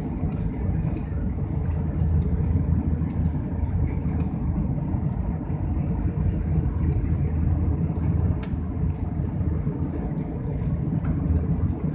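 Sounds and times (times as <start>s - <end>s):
jet airliner cabin drone: 0.0s - 11.9s.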